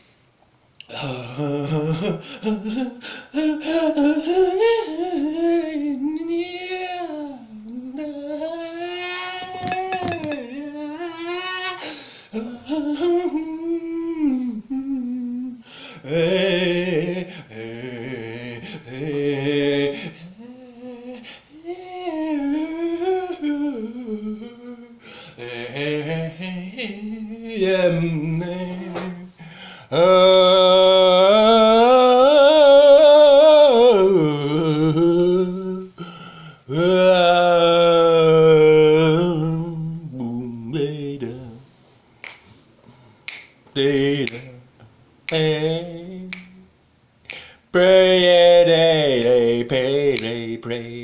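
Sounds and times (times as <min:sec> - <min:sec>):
man humming and singing tones: 0:00.8 - 0:41.7, 0:43.8 - 0:51.0.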